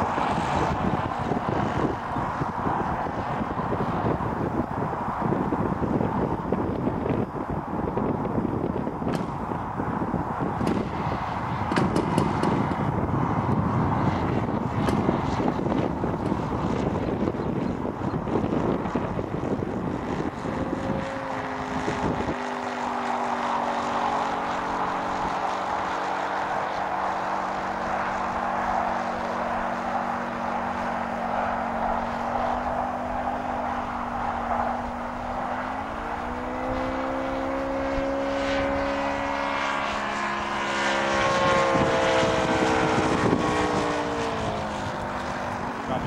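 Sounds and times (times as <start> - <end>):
model plane engine in flight: 0.0 - 46.0
wind on microphone: 0.0 - 46.0.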